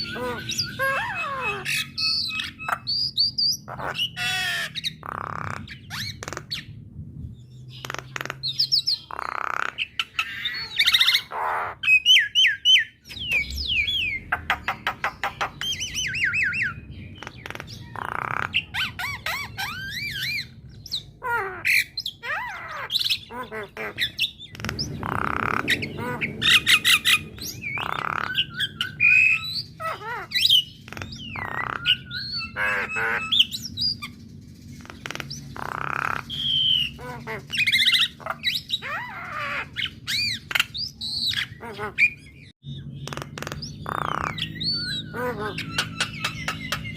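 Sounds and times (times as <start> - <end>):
bird singing: 0.0 - 46.9.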